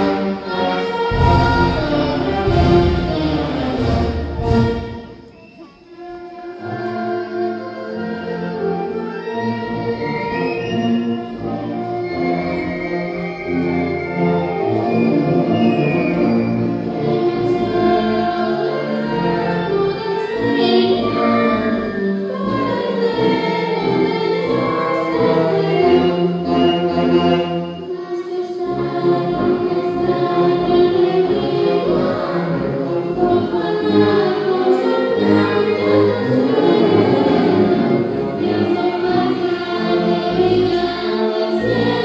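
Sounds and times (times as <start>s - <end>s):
choir singing: 0.0s - 42.0s
orchestral accompaniment: 0.0s - 42.0s.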